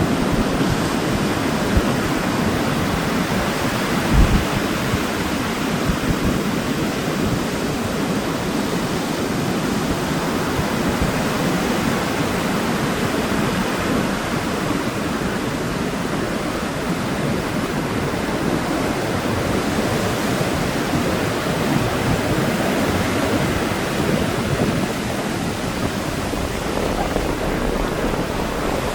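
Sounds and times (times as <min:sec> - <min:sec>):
waves washing on beach: 0:00.0 - 0:28.9.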